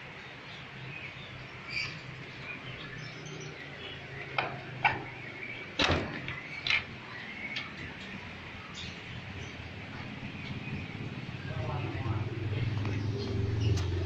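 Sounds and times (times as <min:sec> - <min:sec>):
caged birds chirping: 0:00.0 - 0:14.0.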